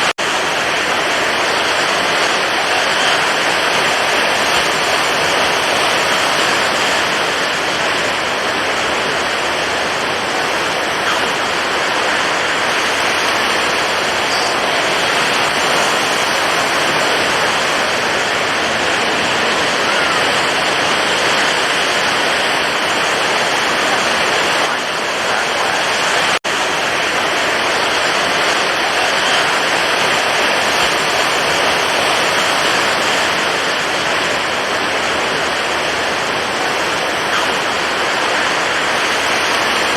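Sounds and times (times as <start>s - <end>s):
stormy ocean waves rushing: 0.0s - 39.9s.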